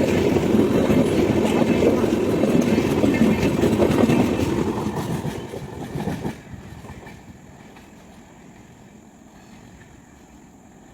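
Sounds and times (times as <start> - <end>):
wheels clattering on rails: 0.0 - 10.3
train passing at high speed: 0.0 - 10.9.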